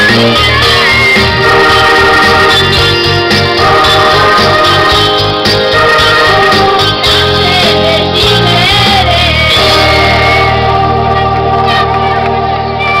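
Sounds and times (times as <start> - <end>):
karaoke backing track: 0.0 - 13.0
women singing into microphones: 0.0 - 13.0.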